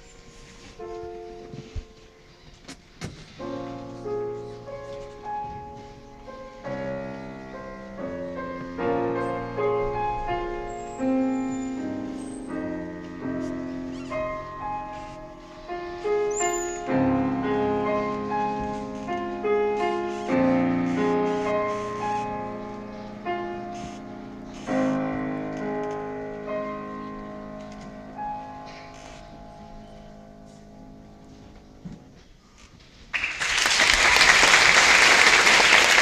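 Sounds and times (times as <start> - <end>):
grand piano piece: 0.0 - 36.0.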